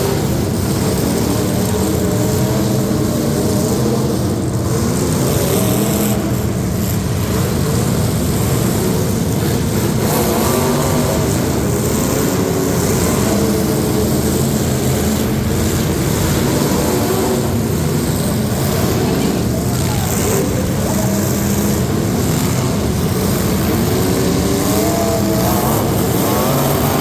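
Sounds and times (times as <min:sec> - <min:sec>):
truck engines running loudly: 0:00.0 - 0:27.0.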